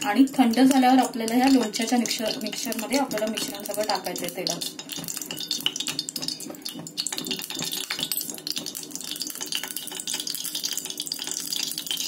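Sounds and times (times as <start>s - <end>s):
oil crackling in a pot: 0.0s - 12.0s.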